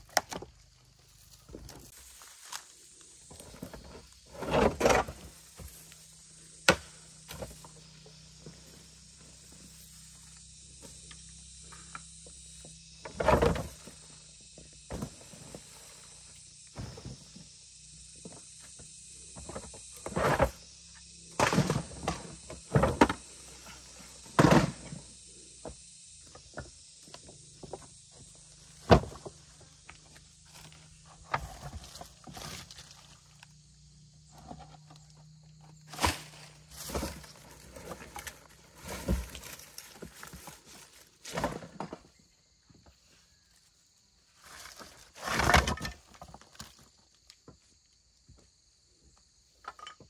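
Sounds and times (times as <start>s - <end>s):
jungle insects humming: 0.0s - 50.0s.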